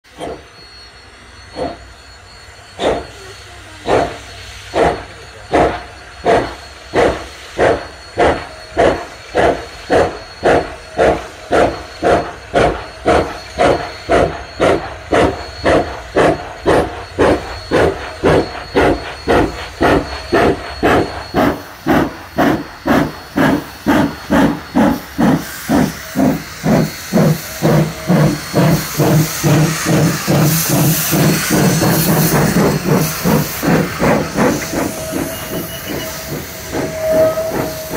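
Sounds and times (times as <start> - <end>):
steam hissing from cylinders: 0.1 - 37.9
steam locomotive exhaust beats: 0.1 - 37.9.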